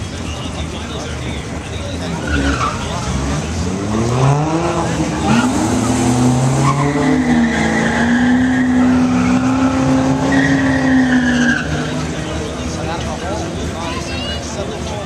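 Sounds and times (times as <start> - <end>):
drag racing cars accelerating: 0.0 - 15.0.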